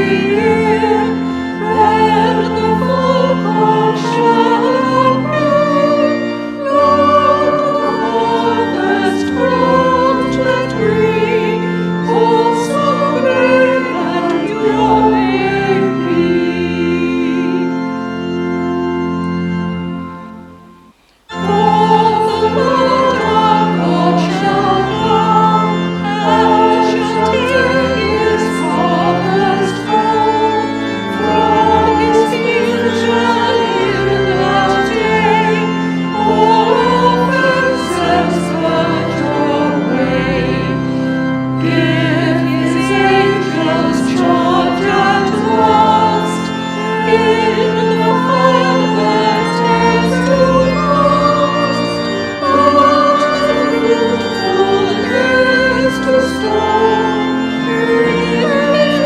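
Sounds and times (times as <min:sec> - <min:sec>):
choir singing a hymn: 0:00.0 - 0:59.0
low organ tones: 0:00.0 - 0:59.0.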